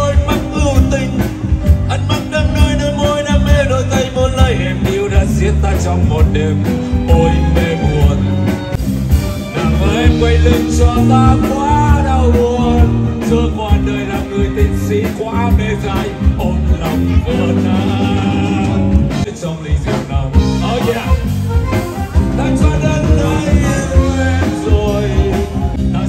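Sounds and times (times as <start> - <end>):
live band playing: 0.0 - 26.0
man singing: 0.0 - 26.0
steady drum beat: 0.0 - 26.0.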